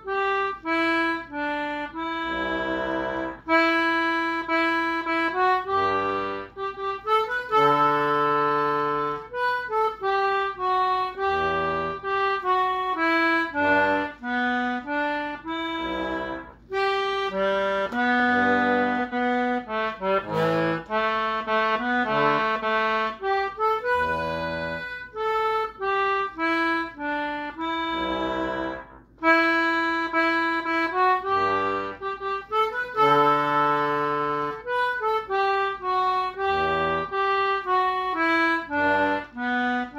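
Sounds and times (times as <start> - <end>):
concertina playing a tune: 0.0 - 39.9.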